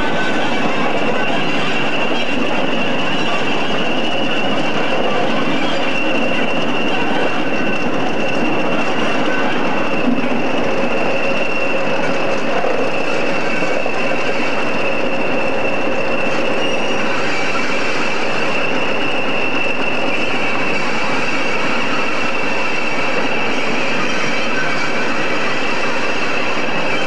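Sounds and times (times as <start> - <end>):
diesel locomotives rumbling: 0.0 - 27.0
high-pitched whine: 0.0 - 27.0.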